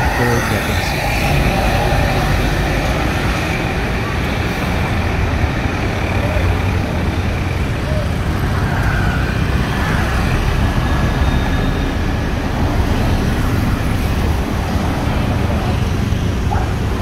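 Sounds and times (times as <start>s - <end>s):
traffic engine rumble: 0.0s - 17.0s.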